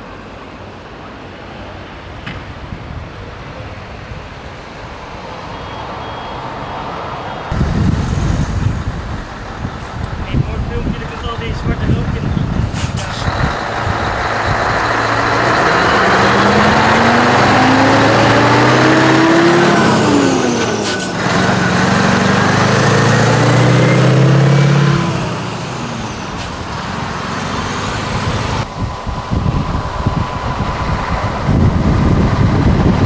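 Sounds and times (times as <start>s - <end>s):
truck engine pulling away: 5.1s - 33.0s.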